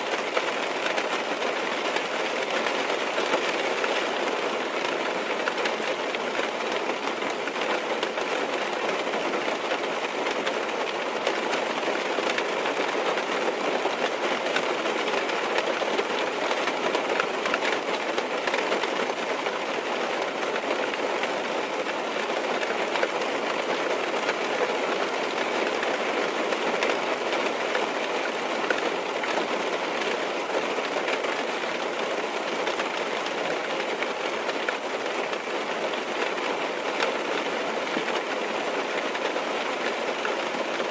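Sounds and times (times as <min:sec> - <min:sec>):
rain on a car roof: 0:00.0 - 0:40.9.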